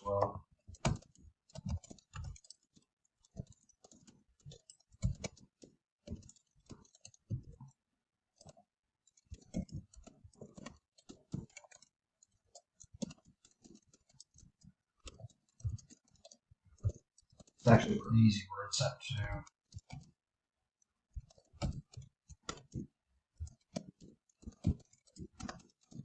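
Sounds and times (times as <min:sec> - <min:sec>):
keyboard and mouse clicking: 0:00.0 - 0:17.8, 0:19.7 - 0:20.2, 0:21.1 - 0:26.0.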